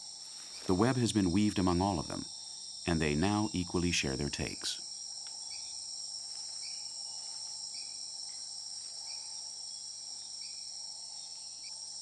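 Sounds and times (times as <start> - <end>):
insect high-pitched shrill: 0.0 - 12.0.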